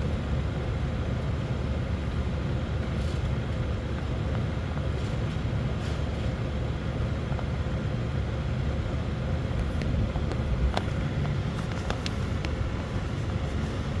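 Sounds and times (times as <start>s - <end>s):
motor vehicle rumble: 0.0s - 14.0s.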